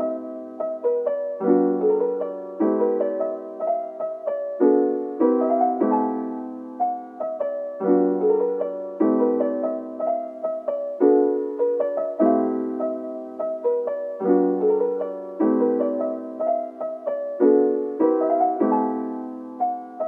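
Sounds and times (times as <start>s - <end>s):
slow gentle piano piece: 0.0s - 20.0s.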